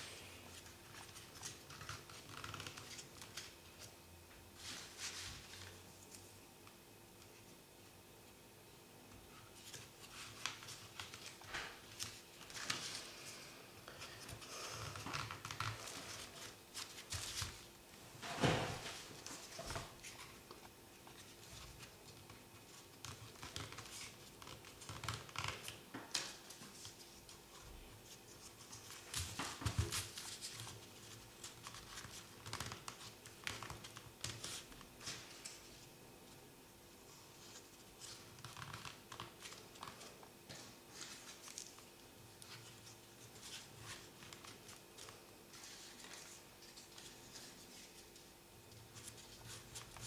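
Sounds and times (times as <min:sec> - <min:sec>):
paper rustling and crinkling: 0:00.5 - 0:04.0, 0:04.6 - 0:06.3, 0:09.3 - 0:35.9, 0:37.3 - 0:50.0.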